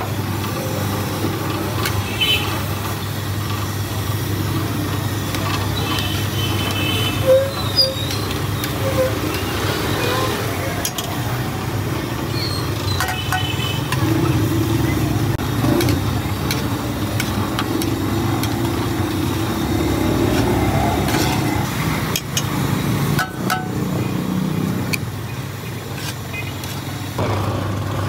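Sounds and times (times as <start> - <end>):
traffic engine rumble: 0.0 - 28.0.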